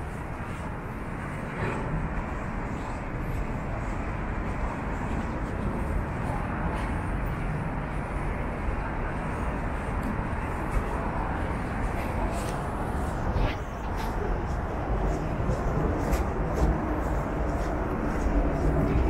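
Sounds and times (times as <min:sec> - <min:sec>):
distant traffic noise: 0:00.0 - 0:19.0.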